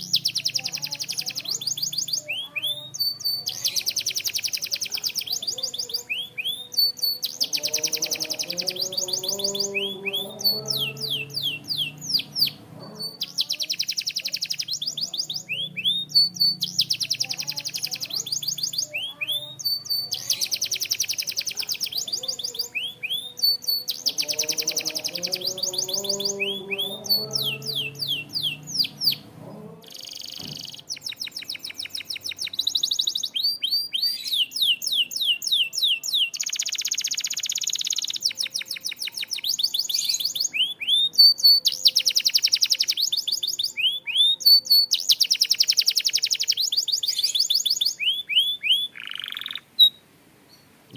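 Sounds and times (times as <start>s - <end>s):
canary singing trills and whistles: 0.0s - 50.7s.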